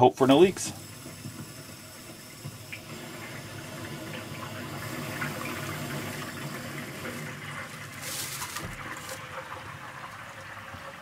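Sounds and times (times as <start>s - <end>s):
water rushing through pipe: 0.0s - 11.0s.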